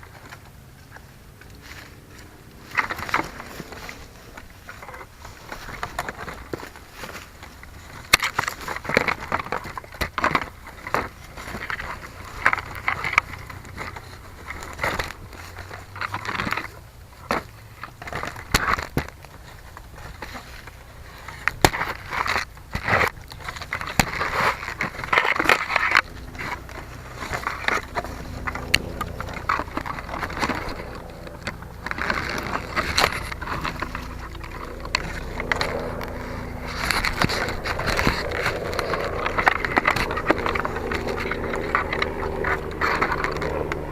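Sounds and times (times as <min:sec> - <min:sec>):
crackling and scraping: 0:00.0 - 0:43.9
faint steady hum: 0:00.0 - 0:43.9.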